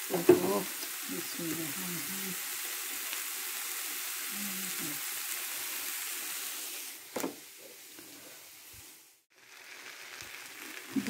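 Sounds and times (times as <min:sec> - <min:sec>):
masala sizzling in a frying pan: 0:00.0 - 0:11.0.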